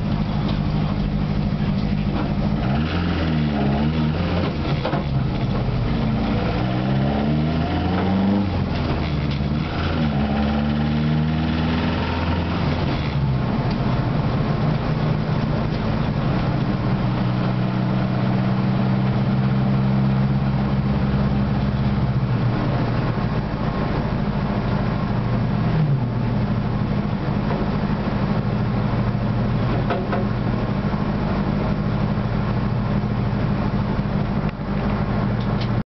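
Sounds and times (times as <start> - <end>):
car engine heard from cabin: 0.0 - 35.8.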